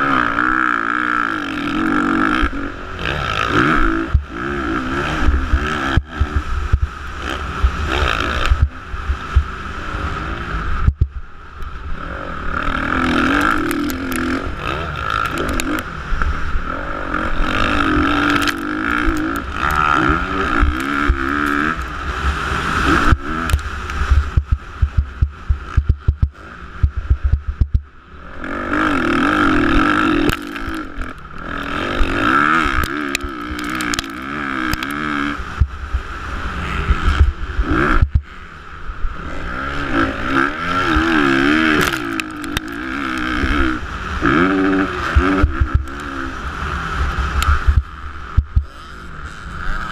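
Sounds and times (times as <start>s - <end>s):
heavy low rumble: 0.0s - 43.8s
motorcycle engines revving: 0.0s - 49.9s.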